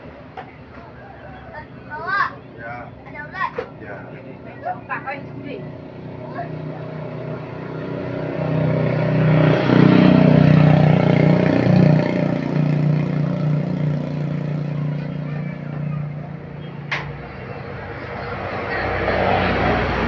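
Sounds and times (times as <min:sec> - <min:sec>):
heavy vehicle engine passing: 0:01.1 - 0:20.0.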